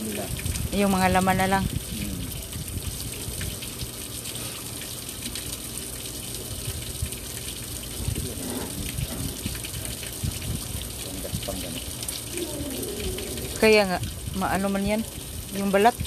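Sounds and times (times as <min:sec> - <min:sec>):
water running from a hose: 0:00.0 - 0:16.0.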